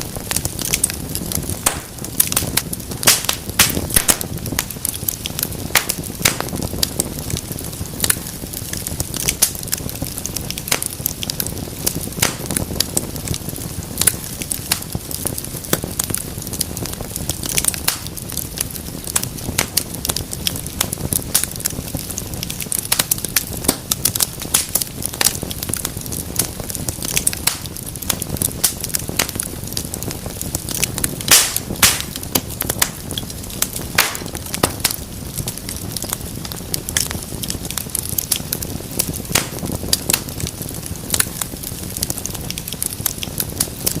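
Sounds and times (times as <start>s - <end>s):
fire snapping: 0.0s - 44.0s
wood fire crackling: 0.0s - 44.0s.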